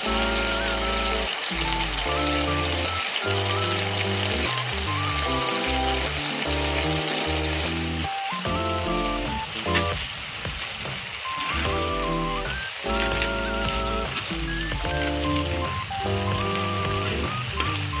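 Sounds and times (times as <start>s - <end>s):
background music with chords: 0.0s - 10.1s, 11.4s - 18.0s
food sizzling in a pan: 0.0s - 18.0s.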